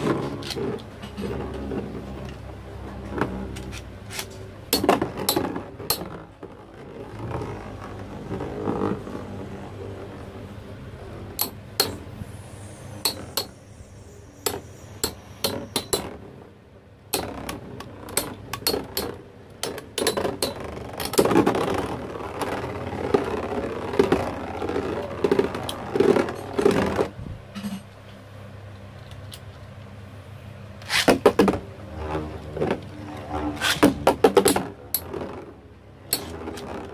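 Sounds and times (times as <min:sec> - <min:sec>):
tops scraping and rattling: 0:00.0 - 0:29.7.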